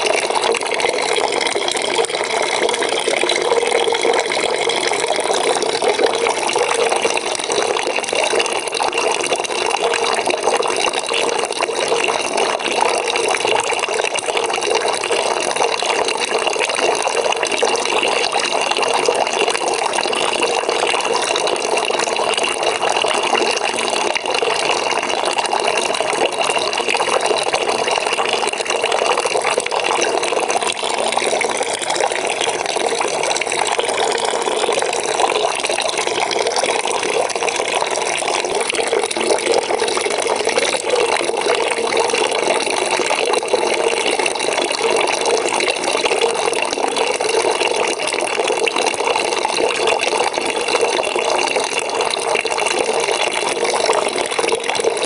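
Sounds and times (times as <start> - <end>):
water running into bucket: 0.0 - 55.0.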